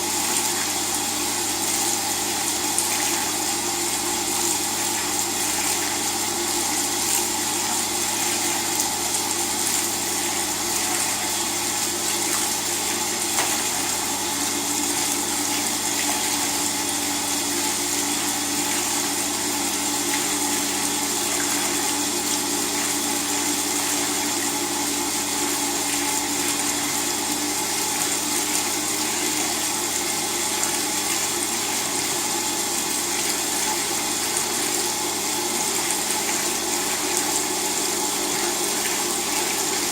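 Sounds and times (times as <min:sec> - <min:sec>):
motor and pump hum: 0:00.0 - 0:39.9
washing machine water noise: 0:00.0 - 0:39.9.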